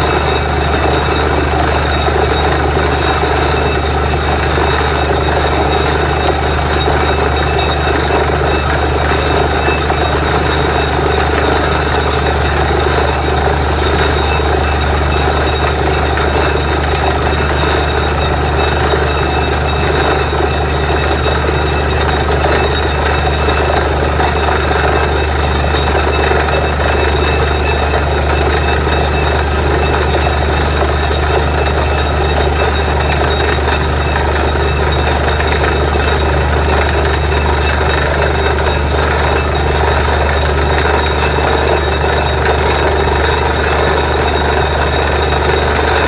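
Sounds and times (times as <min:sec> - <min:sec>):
drilling rig droning: 0:00.0 - 0:46.0.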